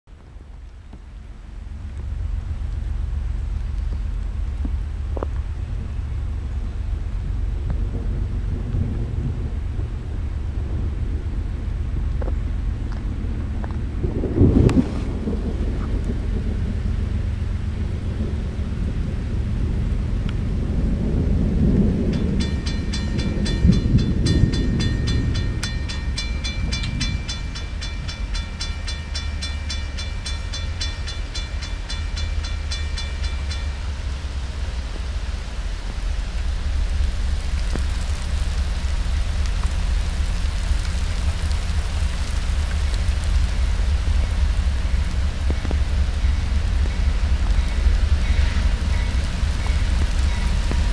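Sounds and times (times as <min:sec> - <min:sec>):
steady rain: 0:00.1 - 0:50.9
thunder rumbling: 0:01.5 - 0:50.9.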